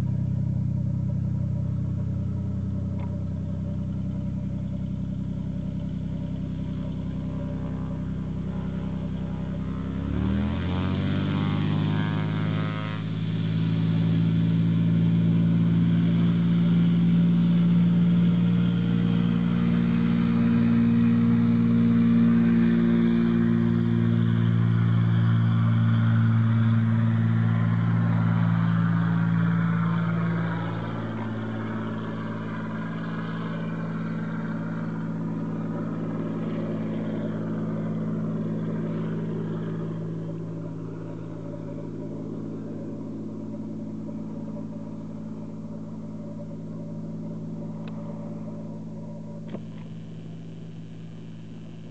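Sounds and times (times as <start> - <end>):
propeller plane engine drone: 0.0 - 51.9.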